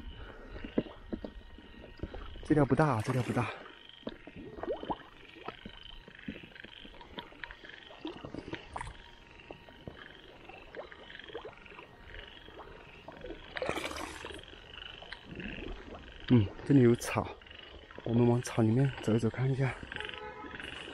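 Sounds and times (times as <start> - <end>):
frogs calling in chorus: 0.0 - 20.9.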